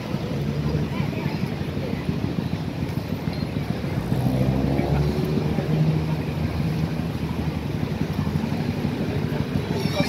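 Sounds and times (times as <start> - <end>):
street traffic: 0.0 - 10.0
vehicle engine humming: 0.0 - 10.0.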